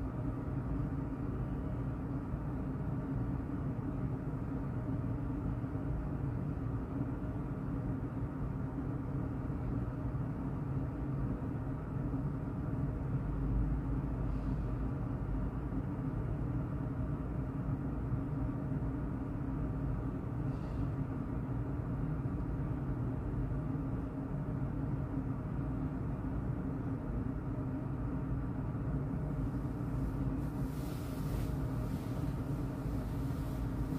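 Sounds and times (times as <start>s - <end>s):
machinery hum and rumble: 0.0s - 33.9s.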